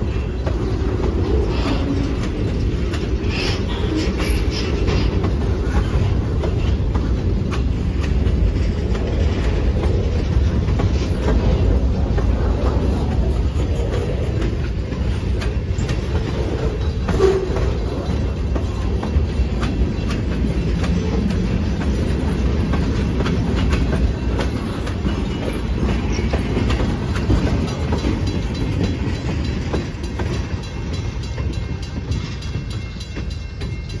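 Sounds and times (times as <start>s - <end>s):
freight train rumbling past: 0.0s - 34.0s
wheels clicking over rail joints: 0.0s - 34.0s.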